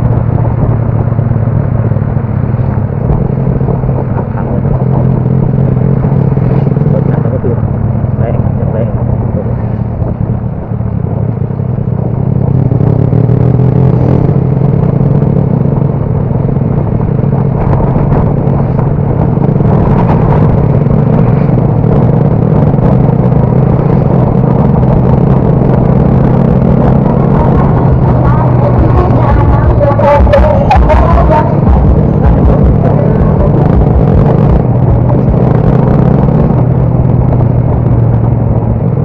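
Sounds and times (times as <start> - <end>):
motorcycle engine running: 0.0 - 39.0
road and wind noise: 0.0 - 39.0.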